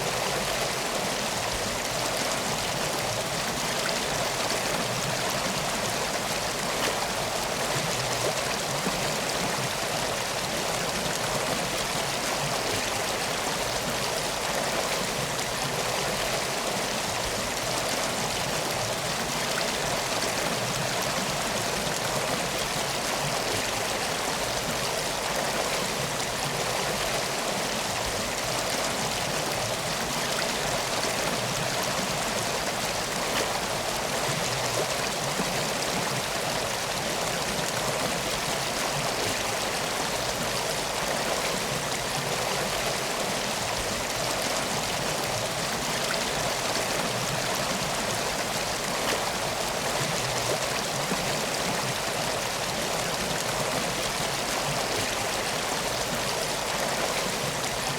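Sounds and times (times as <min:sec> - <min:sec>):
water flowing: 0:00.0 - 0:57.9.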